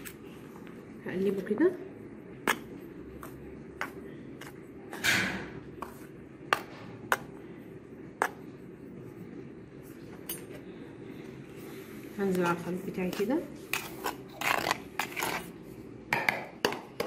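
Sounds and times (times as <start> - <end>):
spoon stirring dry flour: 1.4 - 5.0, 5.6 - 10.6, 11.6 - 17.0.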